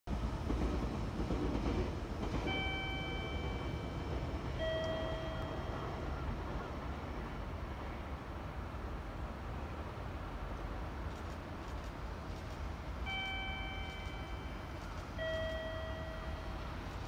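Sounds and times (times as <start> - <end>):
train low rumble: 0.1 - 17.0.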